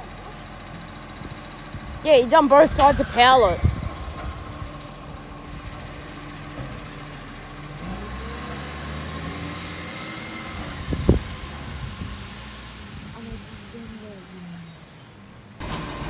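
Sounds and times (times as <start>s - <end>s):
garbage truck diesel engine: 0.0s - 16.0s.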